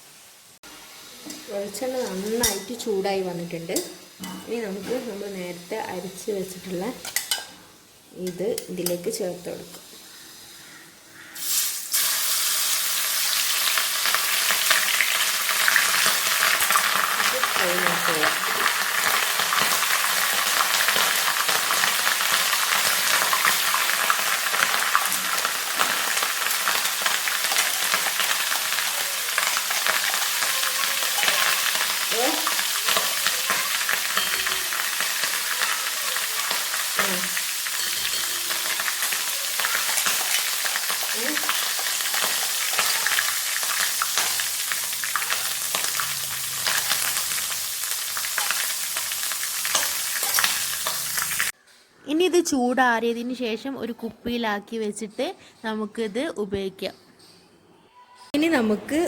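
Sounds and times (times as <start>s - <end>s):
paste sizzling in hot oil: 0.0s - 51.6s.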